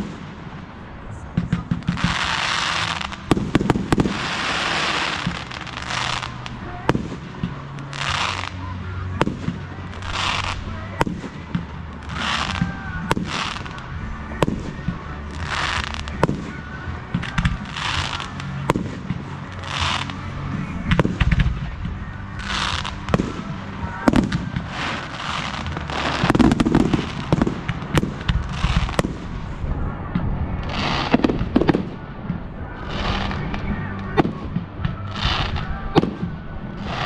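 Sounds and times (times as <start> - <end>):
fireworks hissing bursts: 0.0 - 29.7, 30.6 - 32.1, 32.7 - 37.0
fireworks sharp bangs: 0.0 - 37.0.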